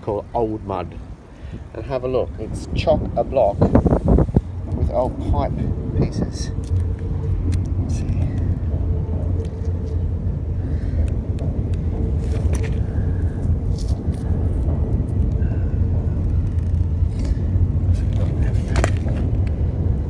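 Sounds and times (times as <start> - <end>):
low motor rumble: 0.0 - 20.0.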